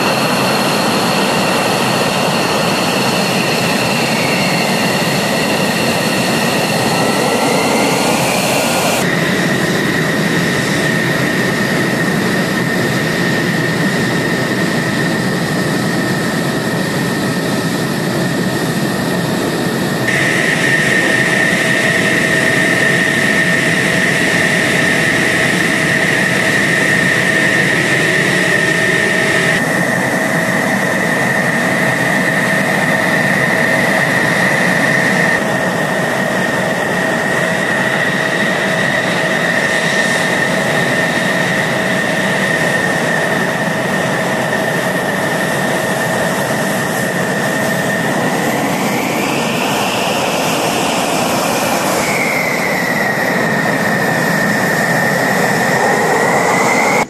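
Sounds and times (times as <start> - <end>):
jet engine roar with whine: 0.0 - 57.0.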